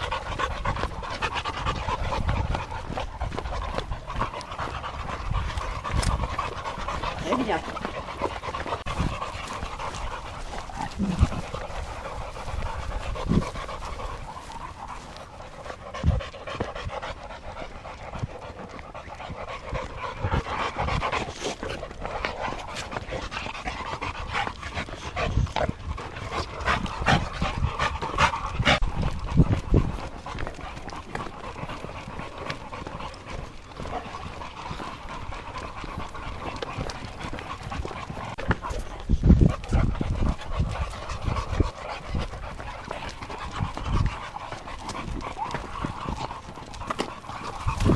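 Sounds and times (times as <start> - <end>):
dogs panting: 0.0 - 47.9.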